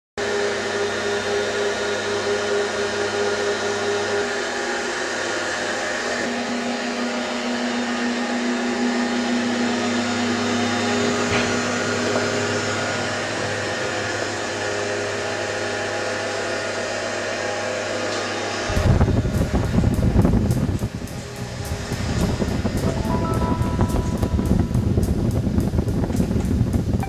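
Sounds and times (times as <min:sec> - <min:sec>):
electric fan motor whirring: 0:00.2 - 0:27.0.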